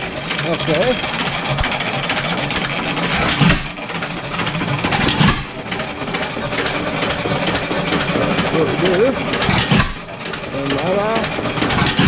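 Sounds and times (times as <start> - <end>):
stationary engine clattering: 0.0 - 12.0.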